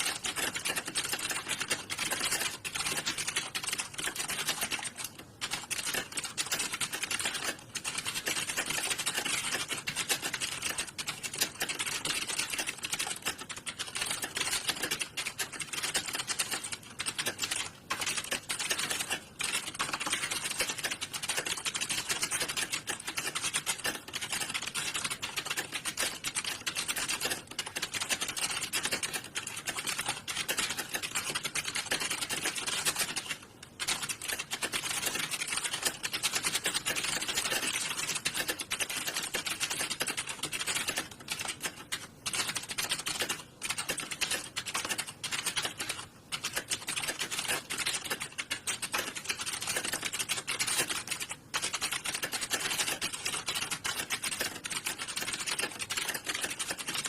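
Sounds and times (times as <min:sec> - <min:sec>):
fast typing on keyboards: 0:00.0 - 0:57.0.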